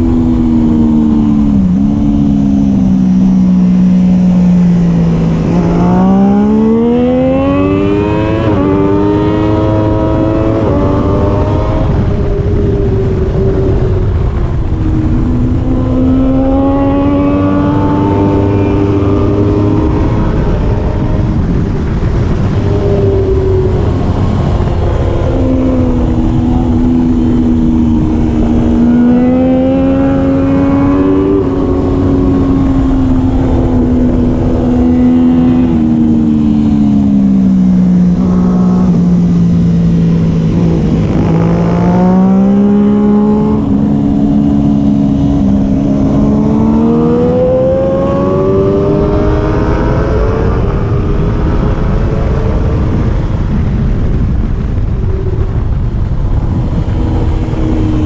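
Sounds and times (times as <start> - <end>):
motorcycle engine running hard: 0.0 - 58.0.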